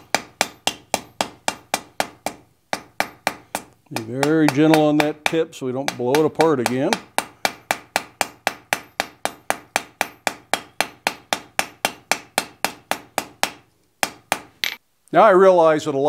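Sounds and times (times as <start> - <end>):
hammer striking iron on anvil: 0.0 - 14.8.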